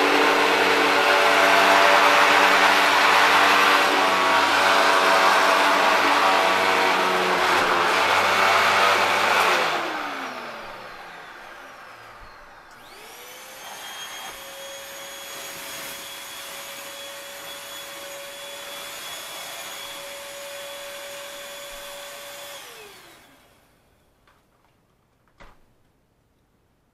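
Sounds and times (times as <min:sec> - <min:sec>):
upright vacuum spinning down: 0:00.0 - 0:23.6
stick vacuum motor whine: 0:00.0 - 0:23.9.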